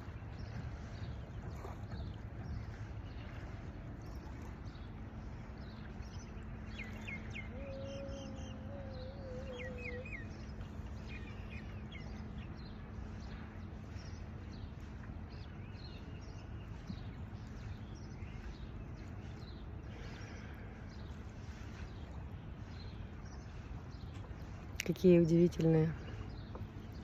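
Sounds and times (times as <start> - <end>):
small birds chirping: 4.1 - 27.0.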